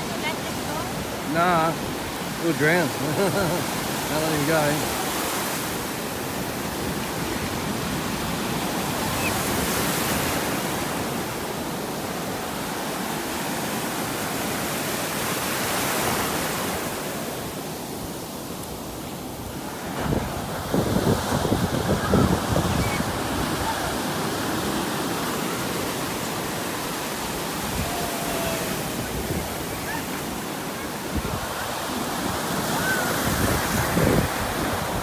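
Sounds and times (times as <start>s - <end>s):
ocean surf breaking: 0.0s - 35.0s.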